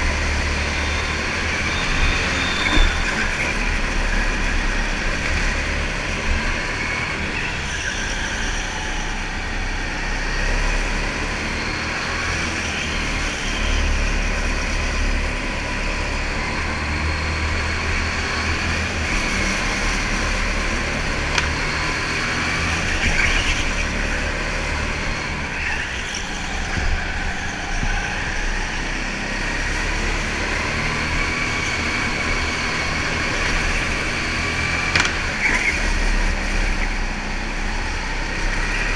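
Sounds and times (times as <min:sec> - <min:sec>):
go-kart engine running: 0:00.0 - 0:38.9
rolling and wind noise: 0:00.0 - 0:38.9.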